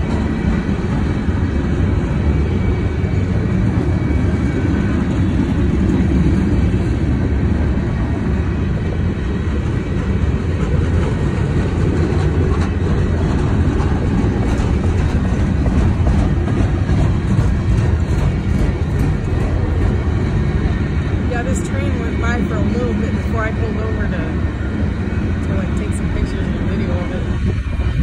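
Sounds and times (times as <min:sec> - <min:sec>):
steel train wheels rumbling on rails: 0:00.0 - 0:28.0.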